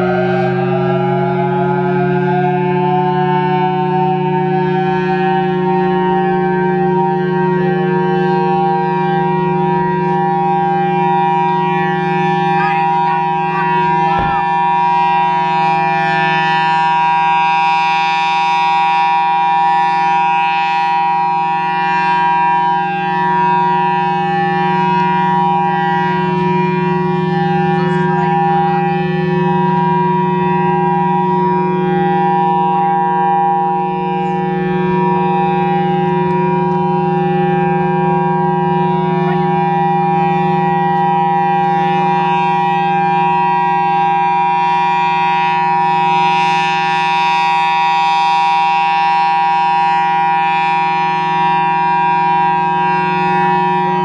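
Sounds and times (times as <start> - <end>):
rotating warning siren: 0.0 - 54.0
siren blower running: 0.0 - 54.0.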